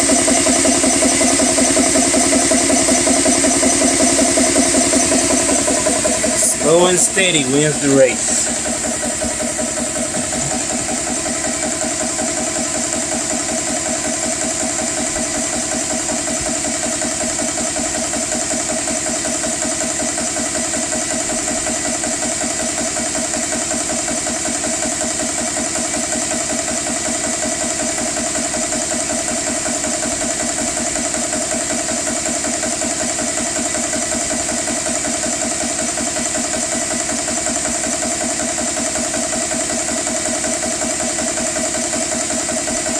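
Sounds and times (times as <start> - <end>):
air compressor pumping: 0.0 - 42.9.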